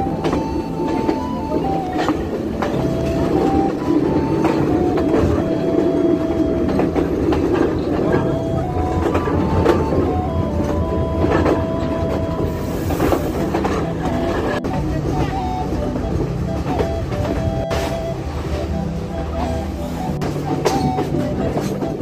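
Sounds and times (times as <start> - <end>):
train rumbling: 0.0 - 22.0
wheels clacking over rail joints: 0.0 - 22.0.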